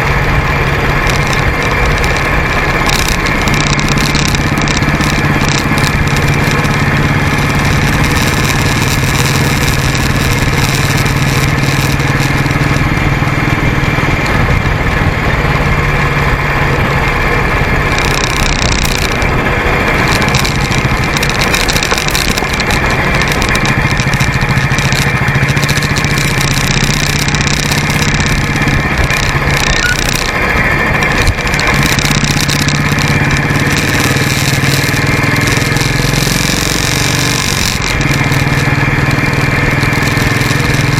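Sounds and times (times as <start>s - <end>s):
motorcycle engine drone: 0.0s - 40.9s
wind and road noise: 0.0s - 40.9s.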